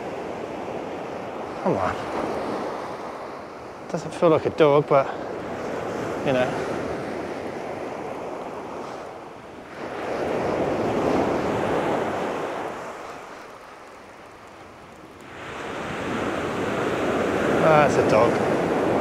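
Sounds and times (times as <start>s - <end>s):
waves breaking on shingle beach: 0.0s - 19.0s.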